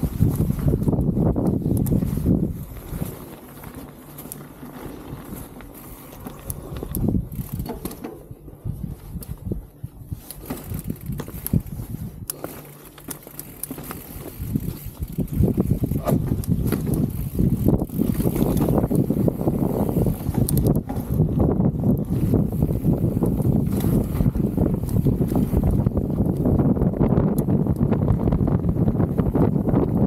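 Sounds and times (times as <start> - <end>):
bike rattling: 0.0 - 30.0
bike tyres on dirt and gravel: 0.0 - 30.0.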